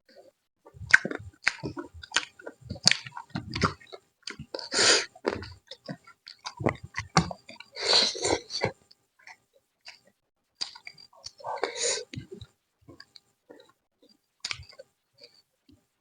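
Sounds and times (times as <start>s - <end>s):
person chewing food: 0.1s - 15.4s.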